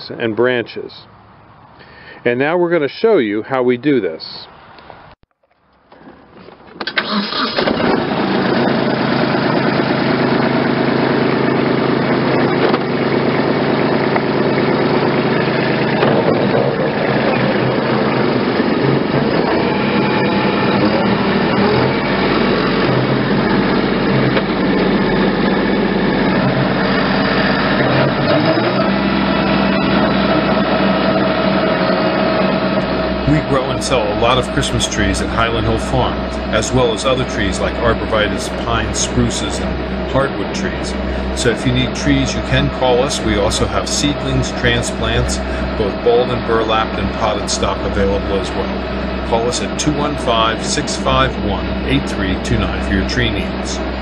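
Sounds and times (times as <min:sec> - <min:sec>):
tractor engine running: 0:04.8 - 0:54.0.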